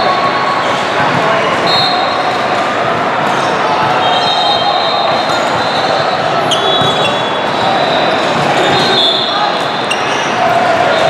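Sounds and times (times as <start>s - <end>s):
many overlapping voices: 0.0s - 11.0s
volleyballs hit and bouncing: 0.2s - 11.0s.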